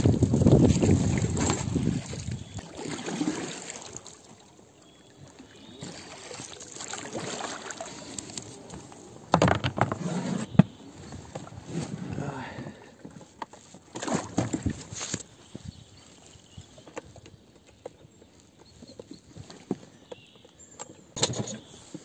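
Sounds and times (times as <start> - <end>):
water sloshing around boat: 0.0 - 22.0.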